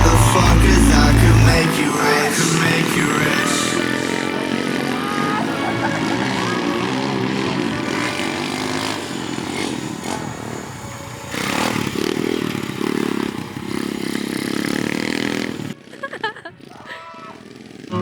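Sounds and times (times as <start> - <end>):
dirt bike engine revving: 0.0 - 15.8, 17.4 - 18.0.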